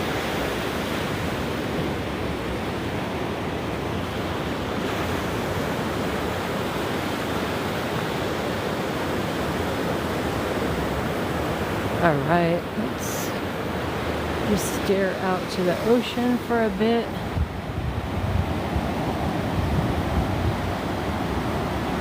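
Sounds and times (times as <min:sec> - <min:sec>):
ocean surf washing onto beach: 0:00.0 - 0:22.0.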